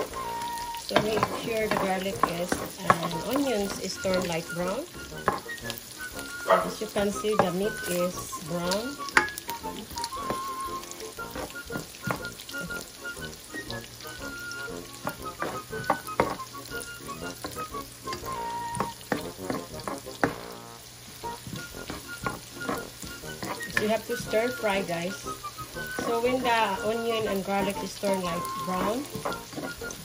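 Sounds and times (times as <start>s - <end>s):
food sizzling in hot oil: 0.0s - 30.0s
spoon scraping and knocking pan: 0.0s - 30.0s.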